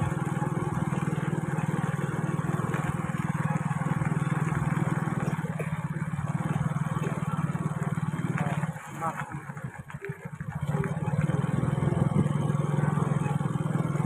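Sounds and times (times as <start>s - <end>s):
road noise: 0.0s - 14.0s
small motorbike engine droning: 0.0s - 14.0s.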